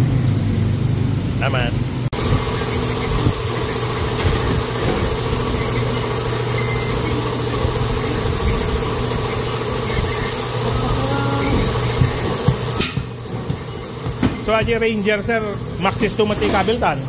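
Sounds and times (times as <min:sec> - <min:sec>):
engine running with hum: 0:00.0 - 0:17.0.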